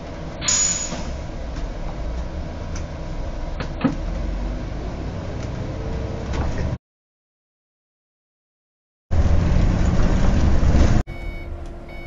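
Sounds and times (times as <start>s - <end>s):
bus engine rumbling: 0.0s - 6.8s, 9.1s - 12.0s.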